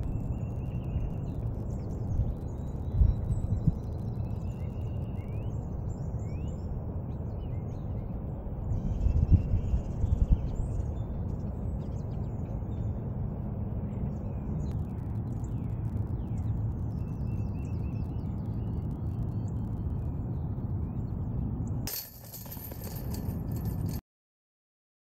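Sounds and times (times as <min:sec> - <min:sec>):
small birds chirping: 0:00.0 - 0:23.8
wind rumbling on microphone: 0:00.0 - 0:24.0.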